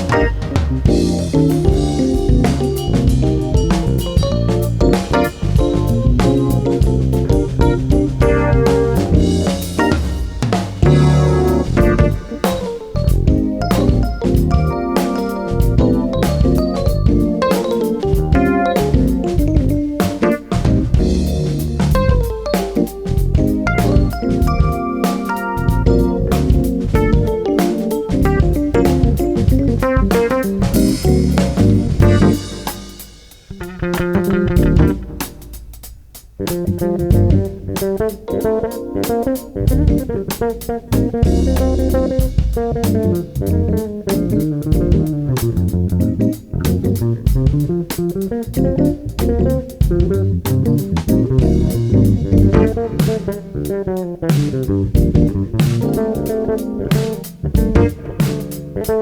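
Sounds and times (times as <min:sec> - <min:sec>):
jazz fusion band playing: 0:00.0 - 0:59.0.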